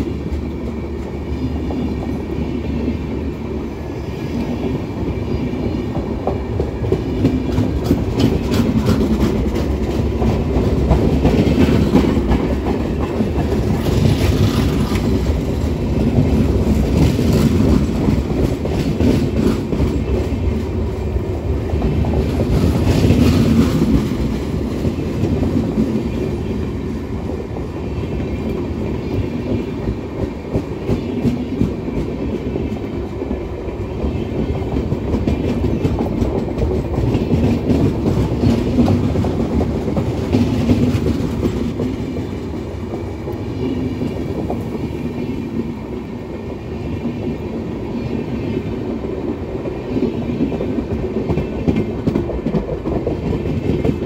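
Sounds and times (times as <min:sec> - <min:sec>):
passenger train rumbling past: 0:00.0 - 0:54.0
train wheels clickety-clack: 0:00.0 - 0:54.0.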